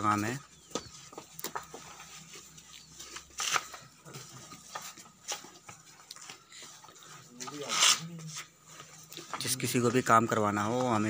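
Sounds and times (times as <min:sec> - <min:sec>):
bare feet shuffling: 0:00.0 - 0:11.0
paint rollers scuffing: 0:00.7 - 0:11.0.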